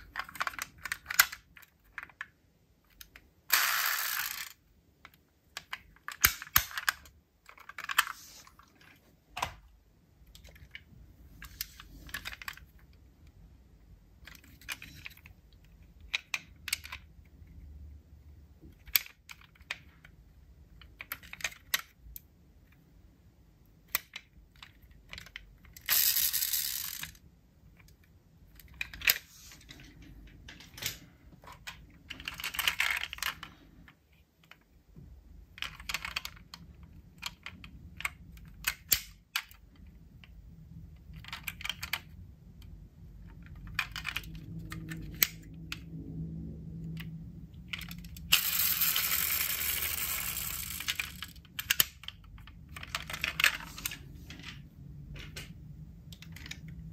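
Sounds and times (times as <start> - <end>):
small clicks and taps of toy cars: 0.0 - 8.1, 14.2 - 17.6, 18.6 - 22.9, 23.7 - 46.0, 46.9 - 56.9.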